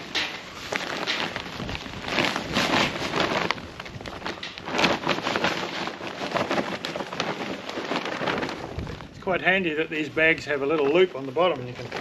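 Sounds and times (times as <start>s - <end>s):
soil and potatoes rustling: 0.0s - 12.0s.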